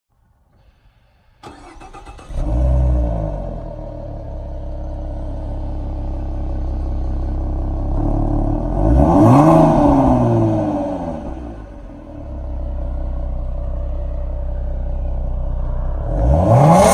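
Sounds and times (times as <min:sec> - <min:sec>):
car engine idling and revving: 0:01.4 - 0:16.9.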